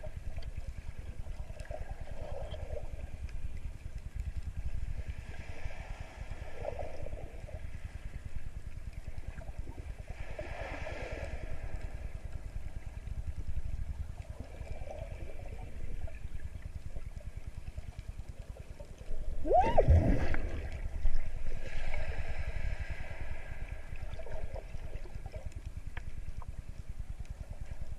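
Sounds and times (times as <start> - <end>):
gurgling water: 0.0 - 27.9
underwater low rumble: 0.0 - 27.9.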